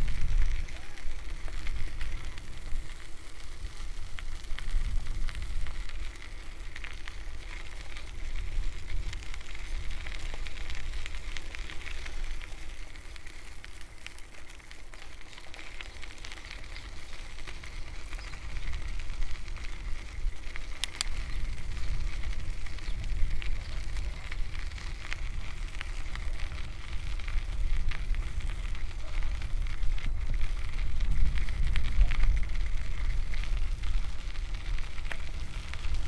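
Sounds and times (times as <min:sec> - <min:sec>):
bicycle tyres clicking on path: 0:00.0 - 0:36.0
wind rumbling on microphone: 0:00.0 - 0:36.0.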